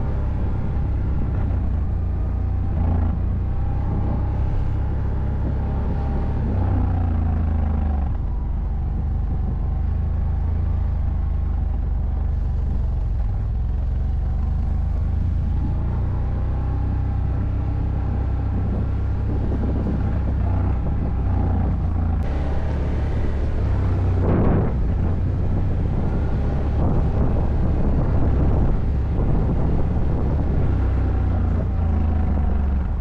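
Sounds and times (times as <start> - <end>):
atv engine drone: 0.0 - 33.0.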